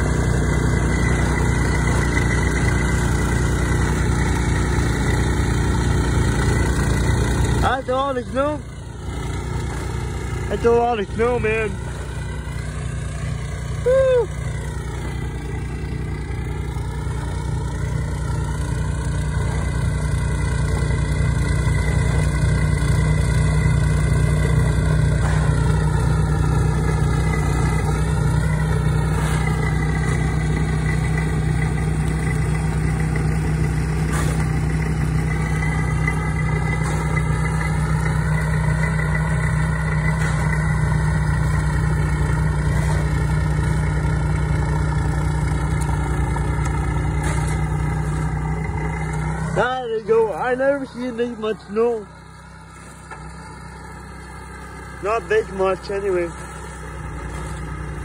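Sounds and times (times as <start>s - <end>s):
engine humming steadily: 0.0s - 58.0s.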